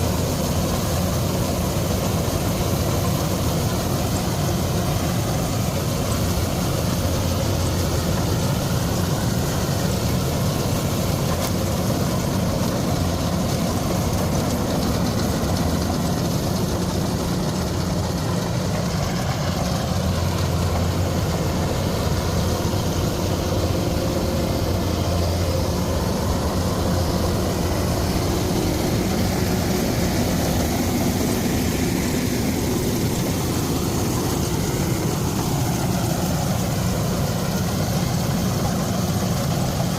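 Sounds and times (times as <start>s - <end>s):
farm machinery engine droning: 0.0s - 39.9s.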